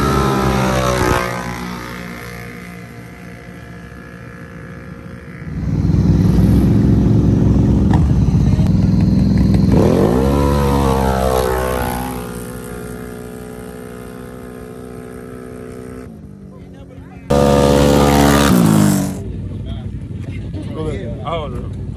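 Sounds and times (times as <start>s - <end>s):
atv engines revving: 0.0s - 21.9s.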